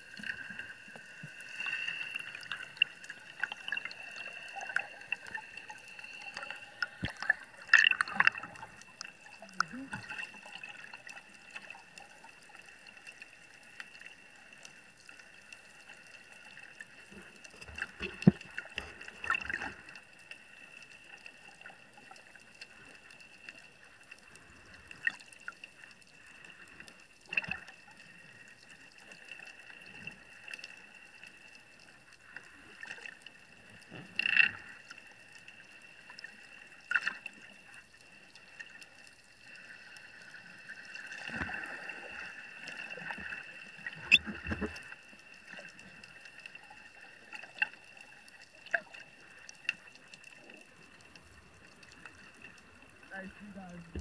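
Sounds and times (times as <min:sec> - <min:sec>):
muffled underwater water noise: 0:00.0 - 0:54.0.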